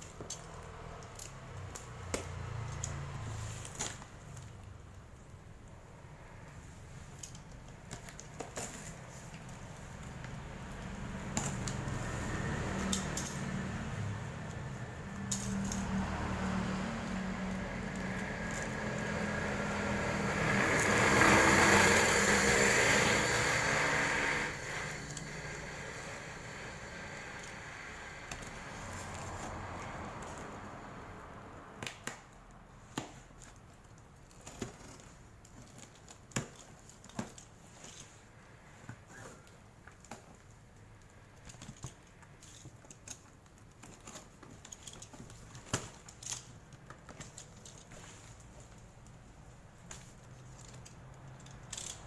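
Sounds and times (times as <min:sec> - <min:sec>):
background noise: 0:00.0 - 0:52.0.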